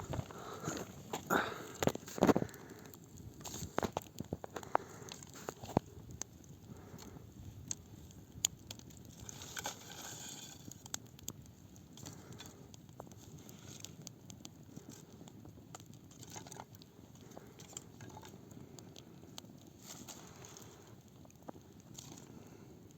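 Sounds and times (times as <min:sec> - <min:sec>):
campfire crackling: 0:00.0 - 0:22.9.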